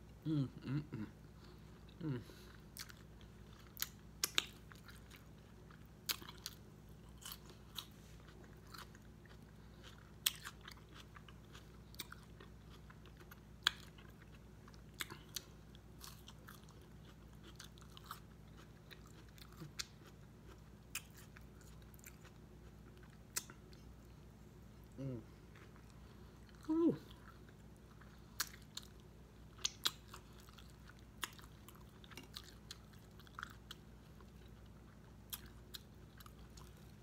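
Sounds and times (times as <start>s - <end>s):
wet chewing and smacking: 2.7s - 23.9s, 25.5s - 37.0s.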